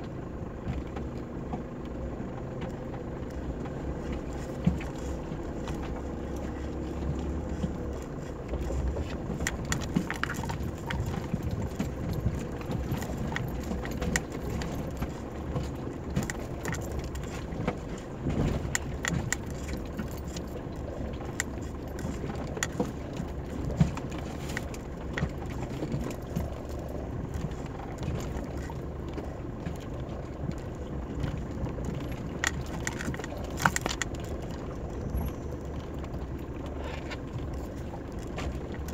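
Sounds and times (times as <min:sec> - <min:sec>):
low engine hum: 0:00.0 - 0:38.9
bodywork knocking and rattling: 0:02.5 - 0:38.9.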